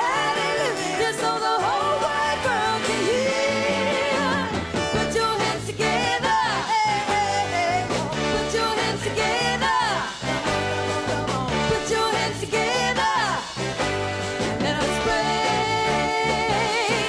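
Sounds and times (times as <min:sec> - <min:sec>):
female vocal trio singing: 0:00.0 - 0:13.6, 0:14.6 - 0:17.0
live backing band: 0:00.0 - 0:17.0.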